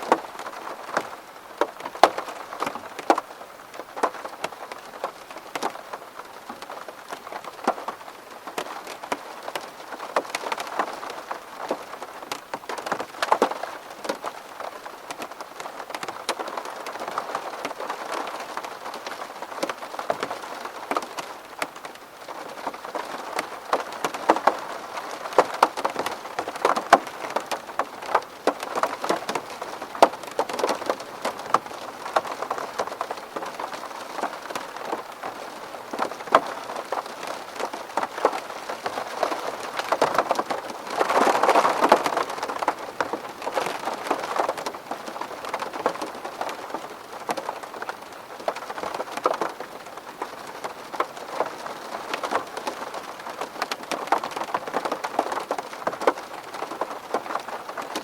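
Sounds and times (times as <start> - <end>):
rain on a window: 0.0 - 58.0
raindrops ticking on glass: 0.0 - 58.0.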